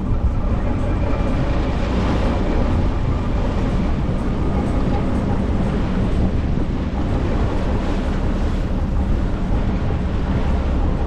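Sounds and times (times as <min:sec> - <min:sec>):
boat engine: 0:00.0 - 0:11.0
water rushing past hull: 0:00.0 - 0:11.0
wind buffeting microphone: 0:00.0 - 0:11.0.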